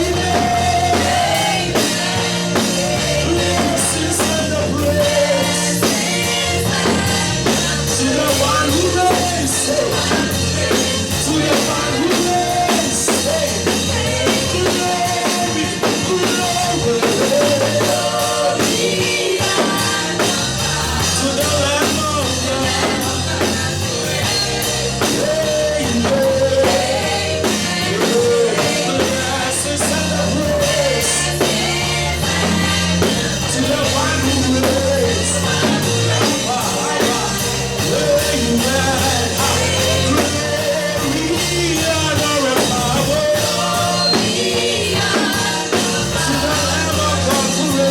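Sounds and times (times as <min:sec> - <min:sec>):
bass: 0:00.0 - 0:47.9
drums: 0:00.0 - 0:47.9
gospel band playing: 0:00.0 - 0:47.9
singing: 0:00.0 - 0:47.9.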